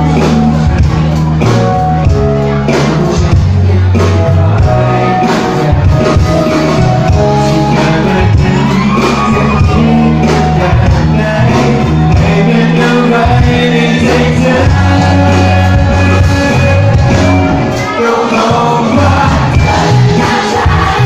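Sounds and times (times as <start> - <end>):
lead singer singing: 0.0 - 21.0
live pop-rock band: 0.0 - 21.0.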